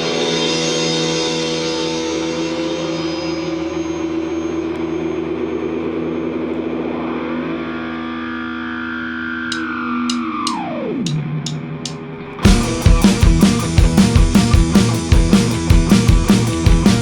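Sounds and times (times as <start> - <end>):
distorted electric guitar drone: 0.0 - 17.0.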